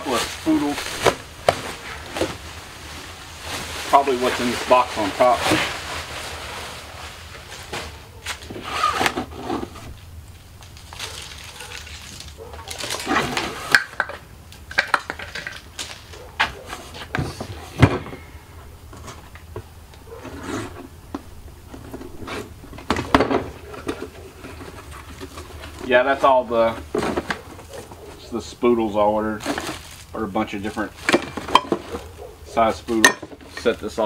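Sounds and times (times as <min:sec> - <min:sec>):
cardboard rustling and scraping: 0:00.0 - 0:13.8, 0:15.4 - 0:34.0.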